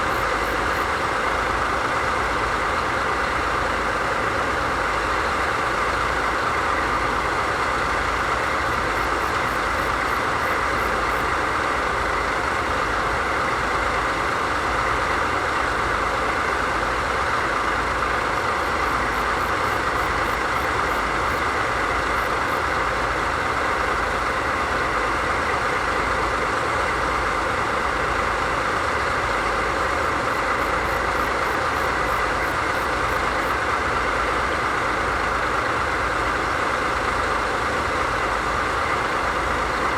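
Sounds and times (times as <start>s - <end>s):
diesel locomotive engines idling: 0.0s - 39.9s.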